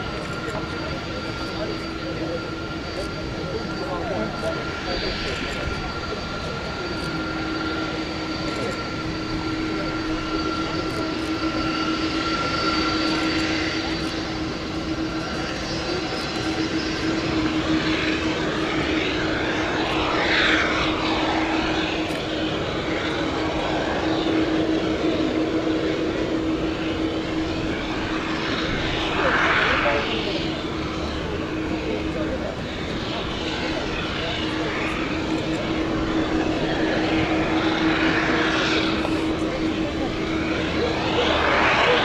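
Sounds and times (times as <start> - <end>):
jet engines humming and whining: 0.0 - 42.0.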